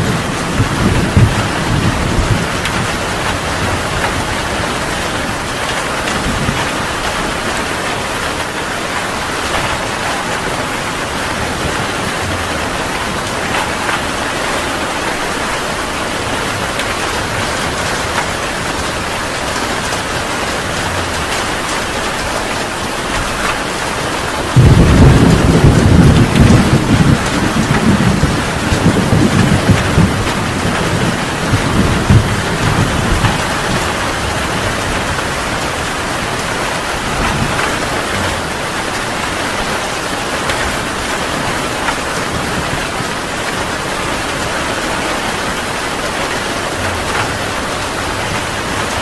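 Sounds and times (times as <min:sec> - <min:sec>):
heavy rain falling: 0:00.0 - 0:49.0
thunder rumbling: 0:00.0 - 0:49.0.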